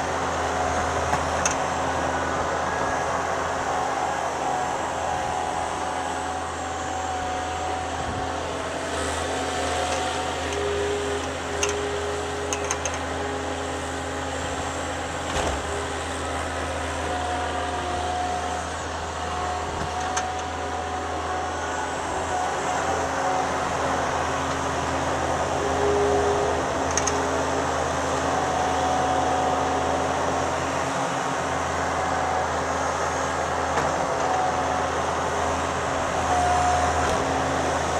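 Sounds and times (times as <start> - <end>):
skid steer engine running: 0.0 - 37.9.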